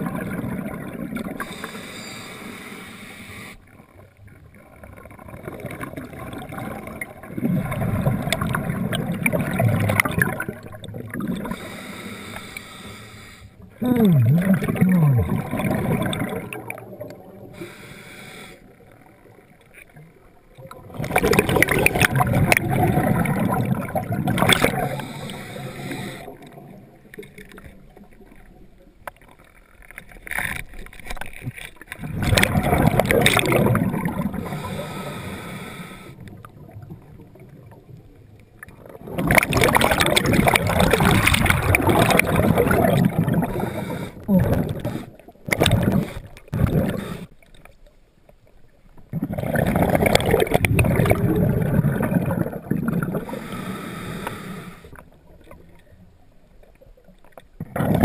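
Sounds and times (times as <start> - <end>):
underwater exhaled bubbles: 0.0 - 2.6, 3.4 - 47.8, 48.4 - 58.0.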